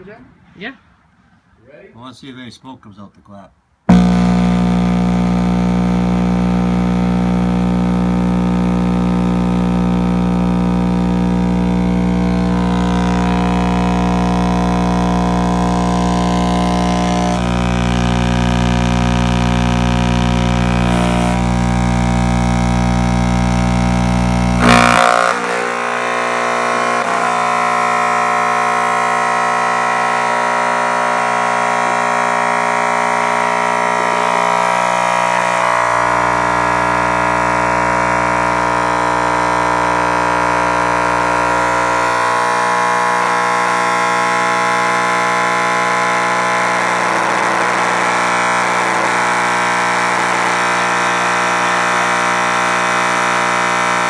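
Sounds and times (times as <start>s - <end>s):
subwoofer buzzing with mains hum: 3.8s - 54.0s
subwoofer crackling: 3.8s - 54.0s.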